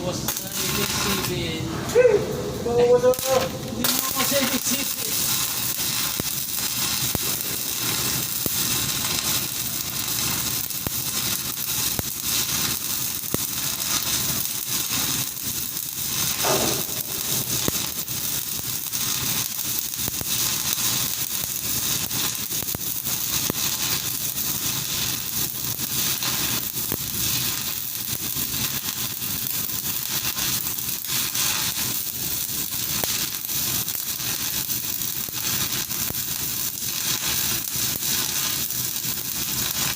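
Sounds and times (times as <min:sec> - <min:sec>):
arc welding crackle: 0:00.0 - 0:39.9.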